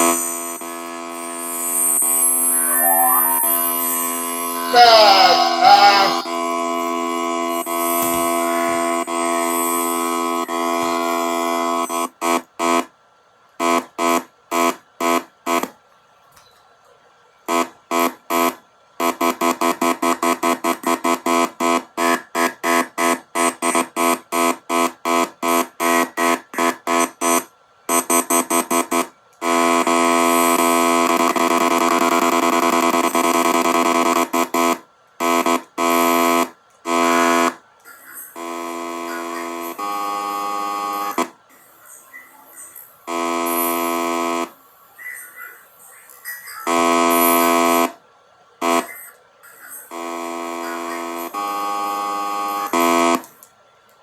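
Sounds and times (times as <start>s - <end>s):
electronic buzzer beeps: 0.0s - 12.9s, 13.6s - 15.7s, 17.5s - 41.3s, 42.7s - 44.6s, 46.6s - 48.0s, 48.6s - 49.2s, 49.8s - 53.3s.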